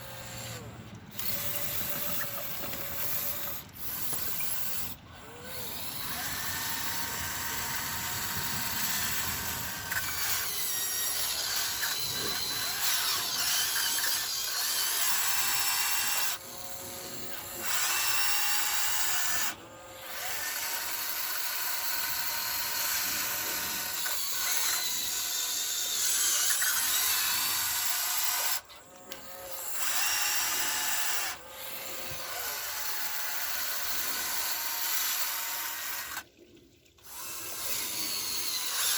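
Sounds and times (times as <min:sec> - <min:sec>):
small electric motors whining: 0:00.0 - 0:38.9.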